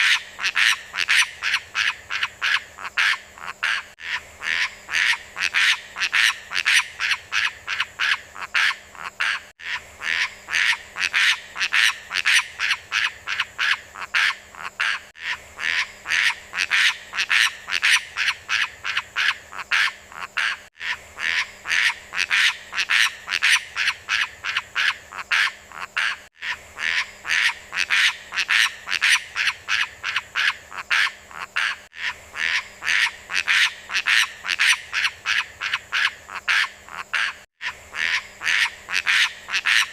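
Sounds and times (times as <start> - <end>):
rapid animal calls: 0.0 - 39.9.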